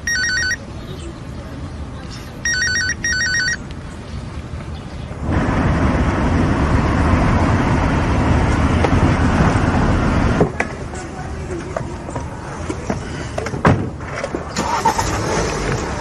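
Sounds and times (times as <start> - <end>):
car road and traffic noise: 0.0 - 16.0.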